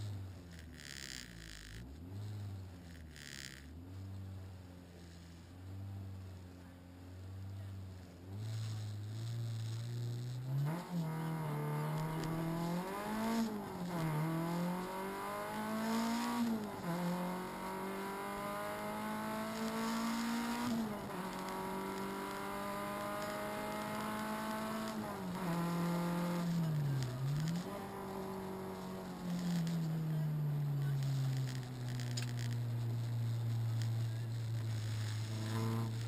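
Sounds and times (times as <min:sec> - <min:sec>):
car engine accelerating through gears: 0:00.0 - 0:36.0.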